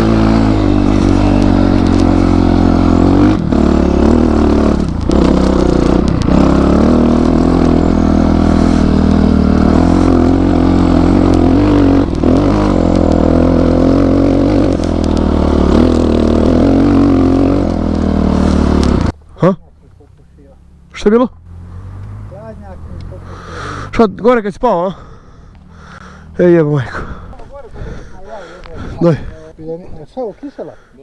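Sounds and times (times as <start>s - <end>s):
motorcycle engine under load: 0.0s - 24.0s, 25.0s - 30.9s.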